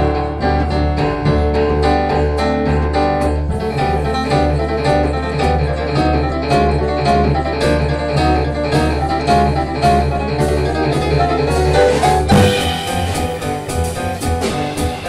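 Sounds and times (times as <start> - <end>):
jazz piano: 0.0 - 15.0
plucked double bass: 0.0 - 15.0.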